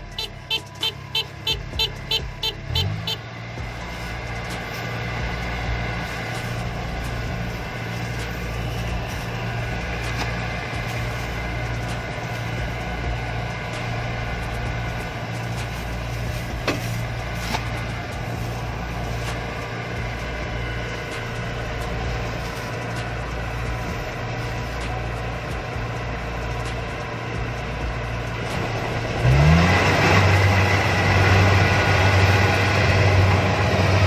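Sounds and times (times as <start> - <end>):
combine harvester engine running: 0.0 - 34.0.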